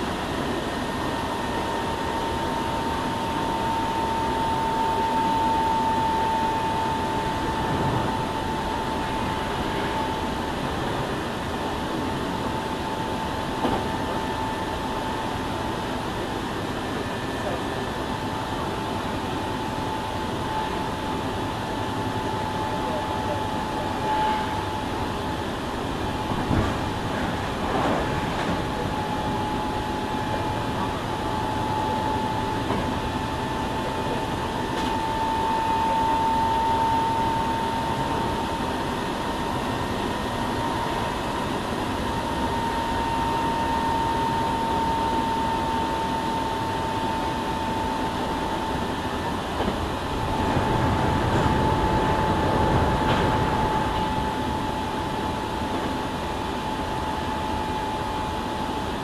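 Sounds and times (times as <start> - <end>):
steady high whine: 0.0 - 59.0
train running rumble: 0.0 - 59.0.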